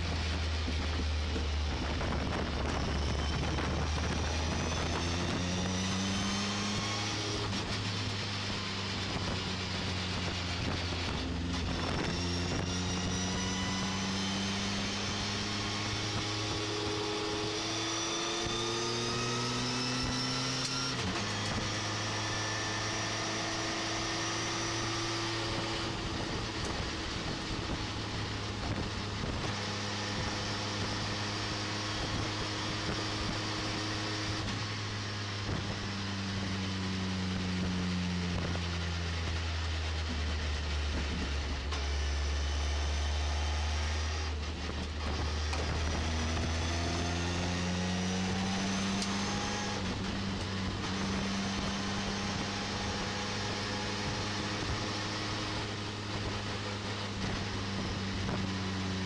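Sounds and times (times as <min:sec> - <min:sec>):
gear changes: 0:00.0 - 0:59.0
truck engine accelerating: 0:00.0 - 0:59.0.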